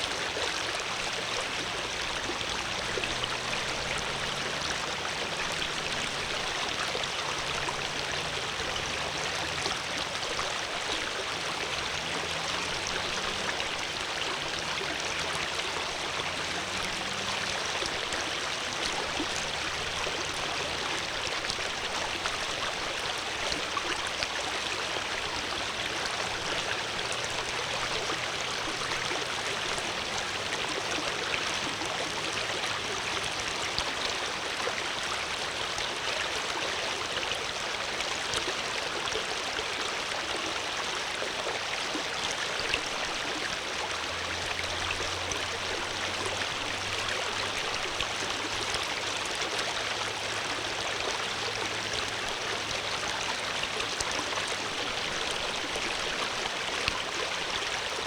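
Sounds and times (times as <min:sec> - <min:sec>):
water flowing in a stream: 0:00.0 - 0:58.0.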